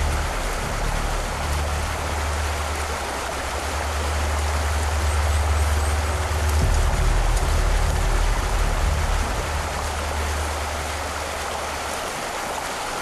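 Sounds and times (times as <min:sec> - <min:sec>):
low steady rumble: 0:00.0 - 0:12.2
river water rushing: 0:00.0 - 0:13.0.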